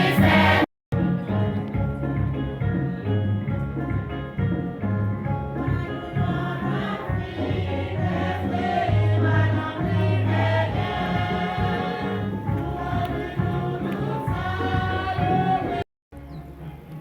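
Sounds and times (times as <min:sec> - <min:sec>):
choir singing with accompaniment: 0:00.0 - 0:03.2, 0:03.8 - 0:15.9.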